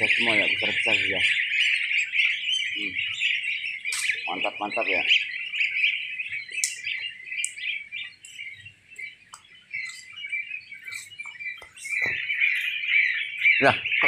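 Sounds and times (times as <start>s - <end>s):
goslings peeping: 0.0s - 14.0s.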